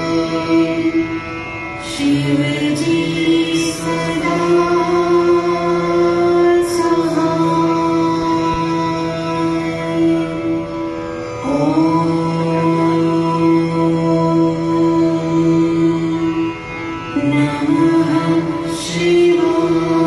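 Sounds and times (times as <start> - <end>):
devotional music held notes: 0.0 - 20.0
steady drone: 0.0 - 20.0.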